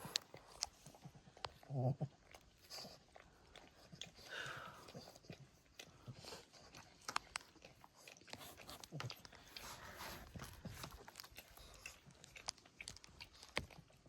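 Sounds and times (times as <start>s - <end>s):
dog licking and chewing: 0.0s - 14.0s.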